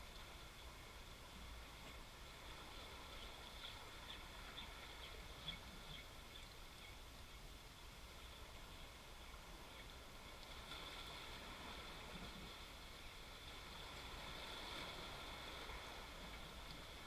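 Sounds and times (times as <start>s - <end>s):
faint wind: 0.0s - 17.0s
sea wash: 0.0s - 17.0s.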